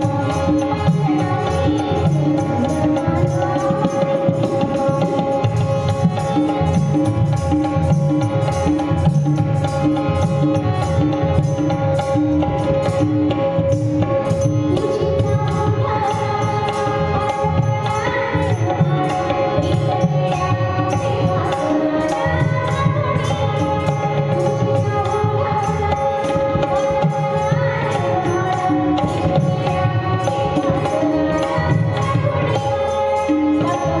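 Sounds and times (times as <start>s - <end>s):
tabla rhythm: 0.0s - 34.0s.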